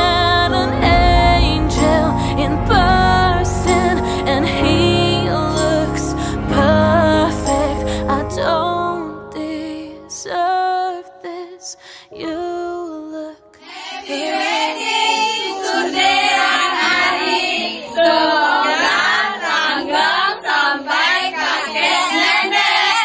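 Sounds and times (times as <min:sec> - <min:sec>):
women singing together: 0:00.0 - 0:23.0.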